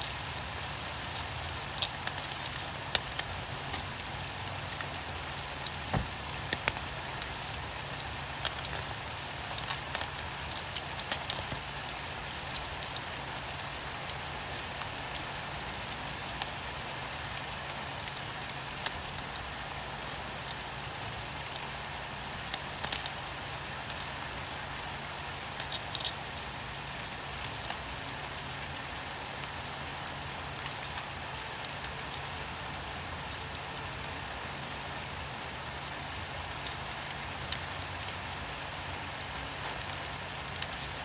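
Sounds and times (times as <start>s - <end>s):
low steady hum: 0.0s - 41.0s
steady rain falling: 0.0s - 41.0s.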